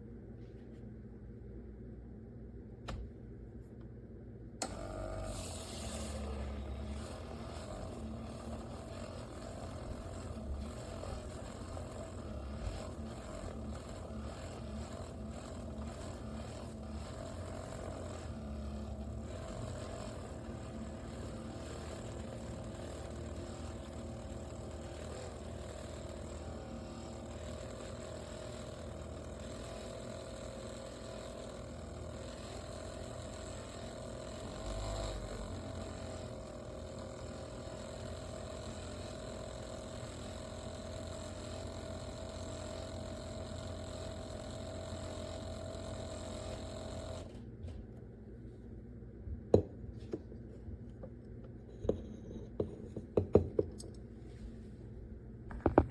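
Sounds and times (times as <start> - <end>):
coffee maker pump hum: 4.6 - 47.9, 49.3 - 53.8, 55.5 - 55.9.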